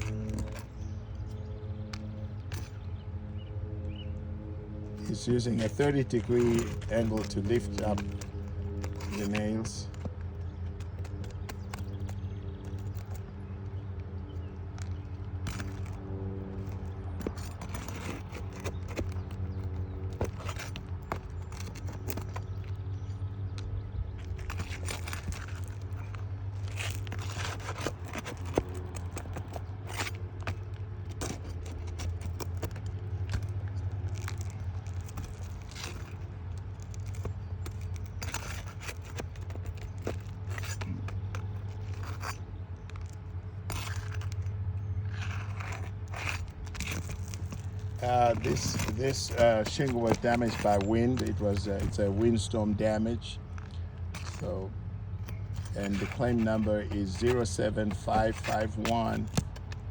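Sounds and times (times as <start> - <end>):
pry bar scraping and clicking: 0.0 - 2.9, 5.0 - 59.9
low hum: 0.0 - 59.9.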